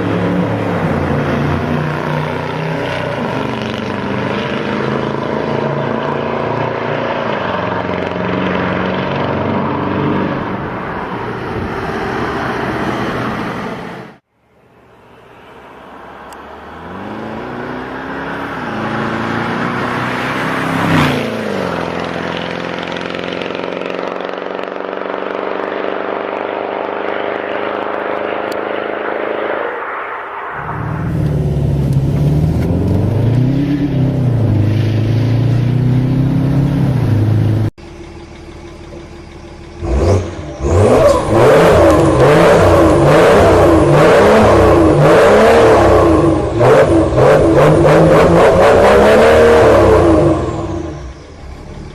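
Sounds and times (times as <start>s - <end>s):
car engine revving: 0.0s - 14.3s, 15.0s - 51.9s
car engine accelerating: 0.0s - 51.9s.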